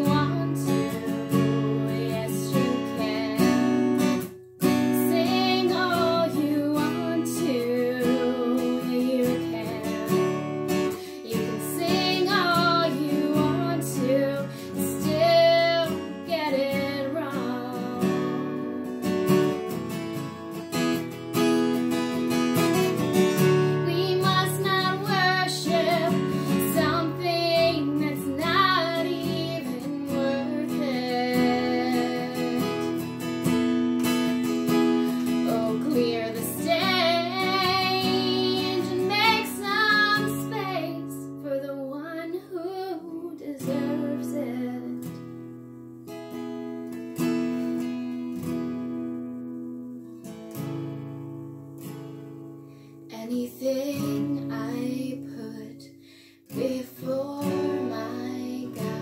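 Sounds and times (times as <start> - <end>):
woman singing: 0.0 - 19.7, 22.6 - 33.7, 34.4 - 45.4, 53.1 - 59.0
acoustic guitar: 0.0 - 59.0.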